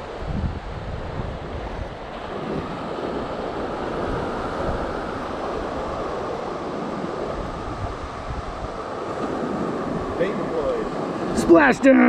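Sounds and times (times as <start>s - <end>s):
wind buffeting microphone: 0.0s - 11.8s
ocean surf breaking: 0.0s - 12.0s.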